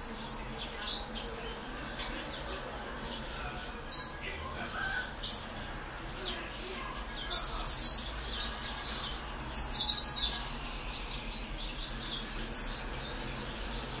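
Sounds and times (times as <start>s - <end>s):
finches chirping: 0.0s - 14.0s.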